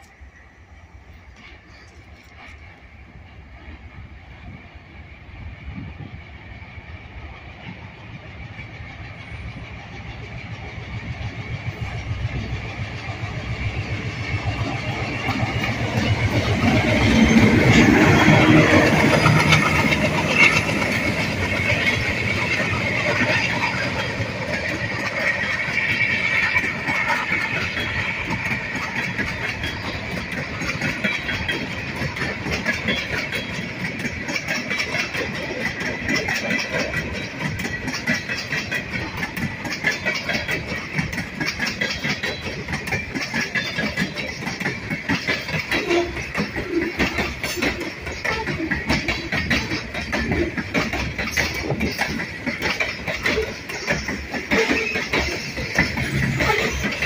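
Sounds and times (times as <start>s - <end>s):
diesel locomotive engine: 0.0s - 57.0s
wheels clicking over rail joints: 7.4s - 57.0s.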